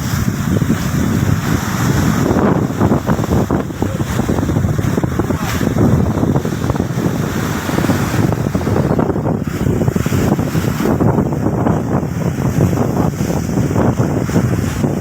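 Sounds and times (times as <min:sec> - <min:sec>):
sea waves surging onto beach: 0:00.0 - 0:15.0
wind buffeting microphone: 0:00.0 - 0:15.0.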